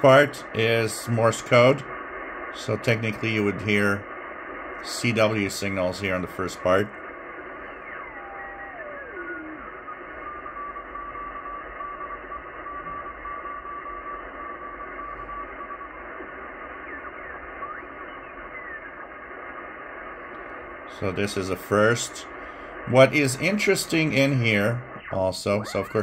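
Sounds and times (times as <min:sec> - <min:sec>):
radio band hiss: 0:00.0 - 0:26.0
radio tones sliding in pitch: 0:00.0 - 0:26.0.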